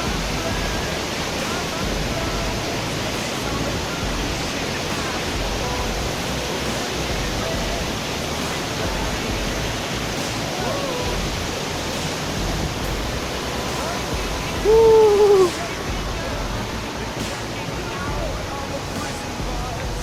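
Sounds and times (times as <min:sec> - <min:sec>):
faint voices: 0:00.0 - 0:20.0
waterfall rushing: 0:00.0 - 0:20.0.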